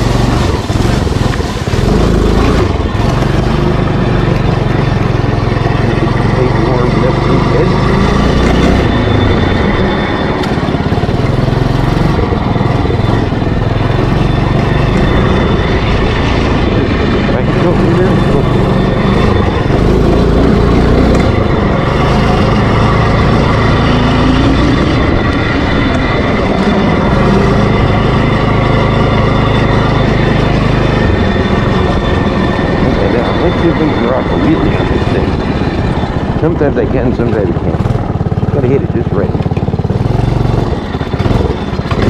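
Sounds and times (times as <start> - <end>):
small gas engine running: 0.0 - 42.0.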